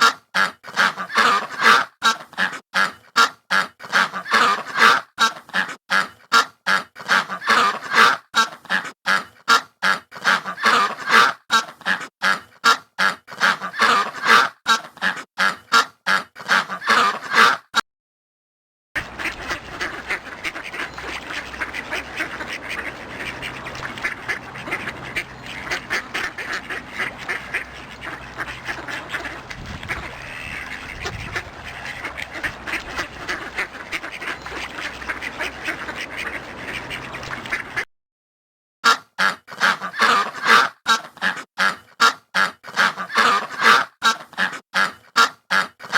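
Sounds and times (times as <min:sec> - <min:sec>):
flock of ducks chattering: 0:00.0 - 0:17.6, 0:19.0 - 0:37.9, 0:39.2 - 0:45.9
ducks quacking: 0:00.0 - 0:17.8, 0:19.0 - 0:37.9, 0:38.8 - 0:45.9.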